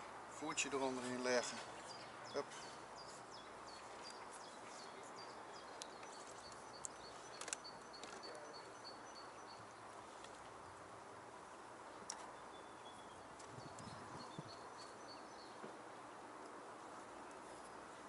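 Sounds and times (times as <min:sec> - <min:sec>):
faint outdoor hiss: 0:00.0 - 0:18.0
small birds chirping: 0:00.4 - 0:18.0.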